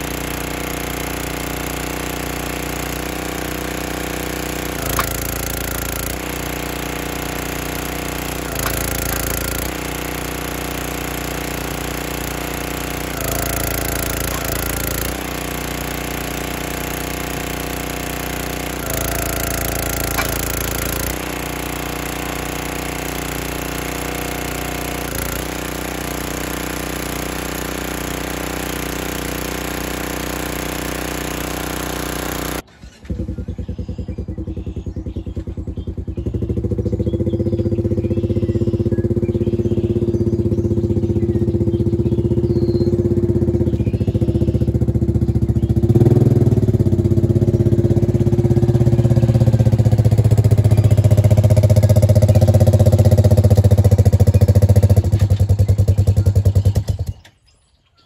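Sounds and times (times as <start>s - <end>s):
log splitter gas engine running: 0.0s - 57.6s.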